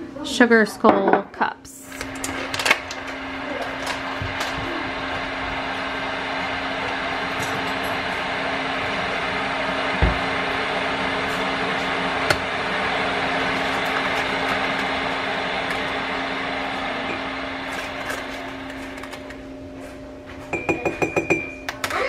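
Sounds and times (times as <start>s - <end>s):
electric kettle boiling: 1.4s - 19.7s.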